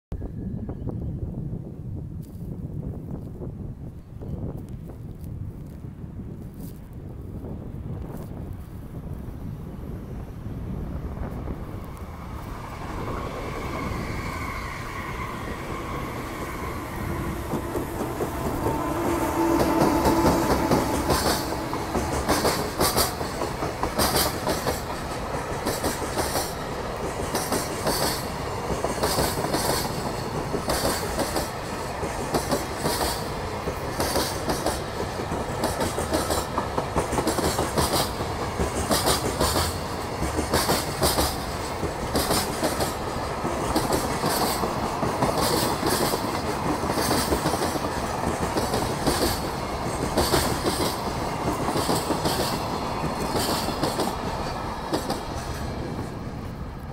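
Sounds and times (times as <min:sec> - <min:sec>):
freight train rumble: 0:00.1 - 0:56.9
train wheels clicking over rail joints: 0:11.3 - 0:56.9.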